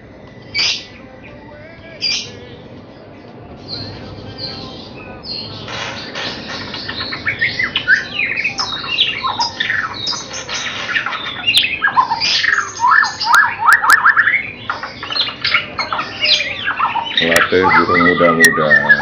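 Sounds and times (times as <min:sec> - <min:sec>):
bird singing chirps and whistles: 0:00.4 - 0:02.6, 0:03.6 - 0:19.0.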